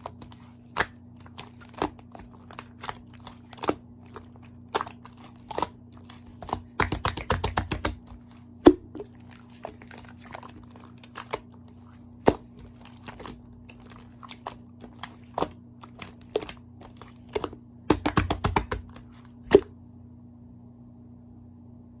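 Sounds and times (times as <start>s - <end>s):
slime crackling and popping: 0.0s - 19.7s.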